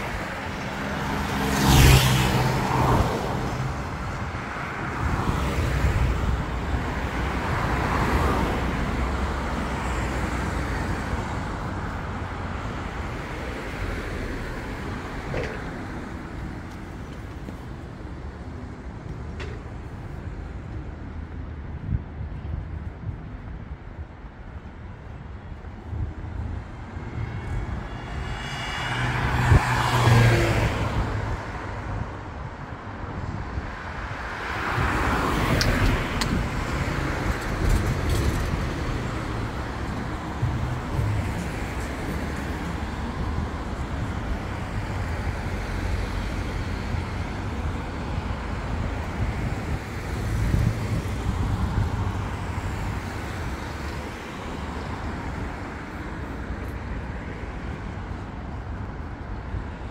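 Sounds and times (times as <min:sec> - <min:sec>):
cars driving past: 0:00.0 - 0:21.9, 0:24.6 - 0:59.9.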